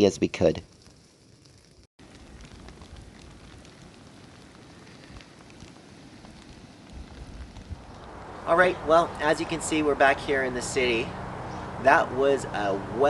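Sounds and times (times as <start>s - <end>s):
steady rain falling: 0.7s - 13.0s.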